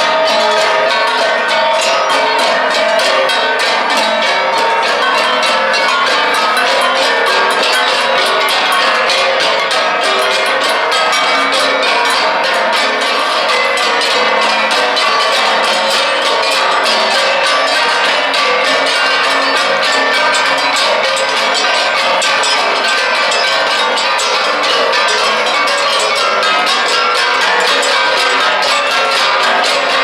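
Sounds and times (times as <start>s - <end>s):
flat gongs clanging in fast rhythm: 0.0s - 30.0s.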